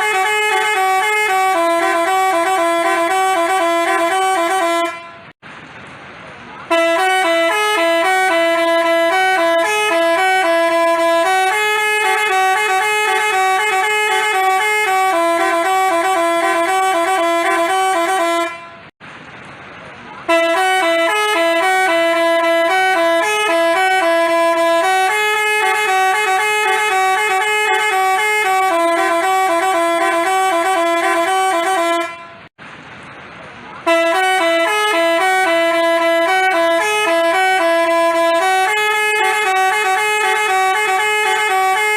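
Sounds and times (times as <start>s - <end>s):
bus horn playing a melody: 0.0s - 5.4s, 6.6s - 19.0s, 20.2s - 32.5s, 33.8s - 41.9s.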